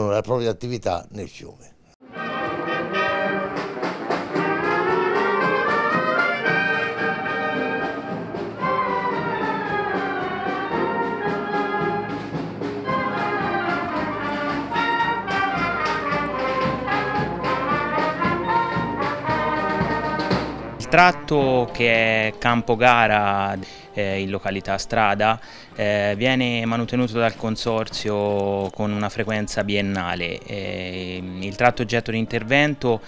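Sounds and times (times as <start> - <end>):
brass band music: 2.0 - 28.0, 29.0 - 33.0.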